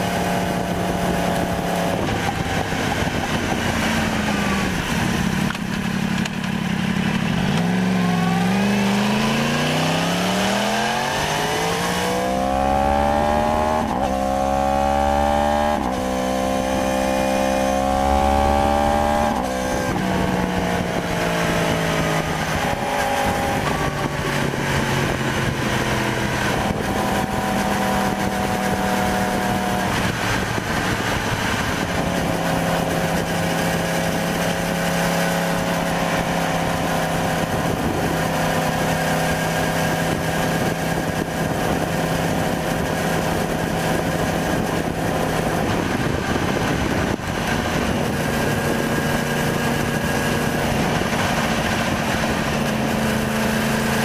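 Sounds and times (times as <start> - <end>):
motorcycle engine revving: 0.0 - 54.0
wind rush on microphone: 0.0 - 54.0.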